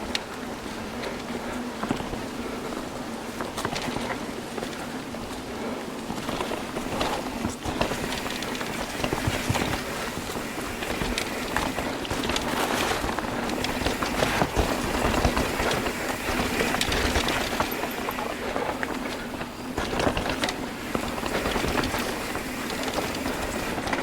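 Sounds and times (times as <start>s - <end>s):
bike rattling and clicking: 0.0s - 24.0s
bike tyres on rough trail: 0.0s - 24.0s.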